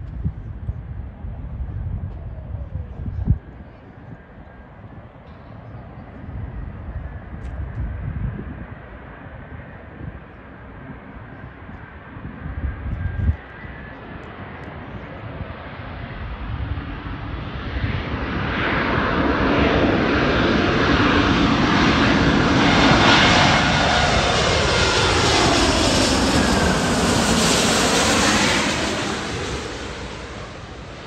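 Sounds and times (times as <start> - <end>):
jet plane passing overhead: 0.0 - 31.0.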